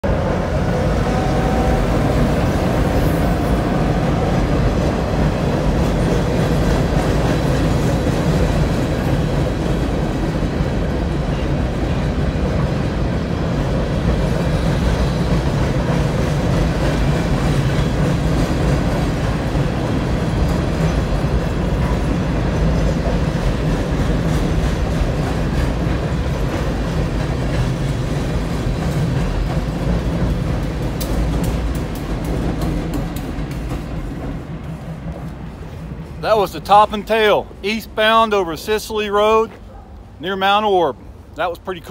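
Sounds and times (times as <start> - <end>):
freight train rumbling over bridge: 0.0 - 41.9.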